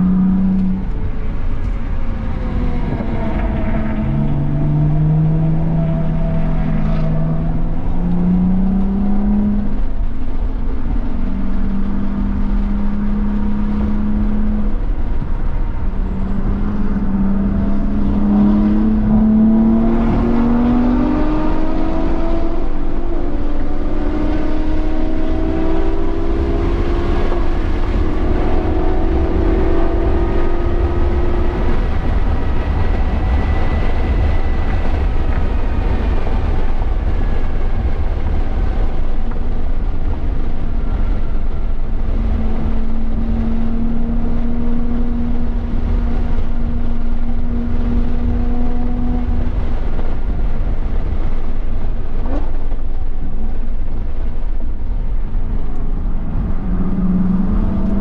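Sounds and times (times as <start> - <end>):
car engine under load: 0.0 - 58.0
constant low rumble: 0.0 - 58.0.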